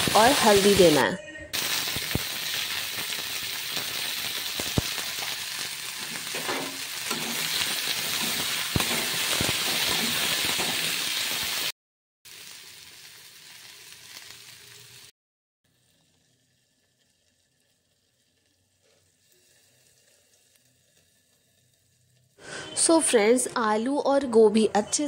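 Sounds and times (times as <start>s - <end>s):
vegetables sizzling in hot oil: 0.0s - 15.1s, 15.7s - 22.9s.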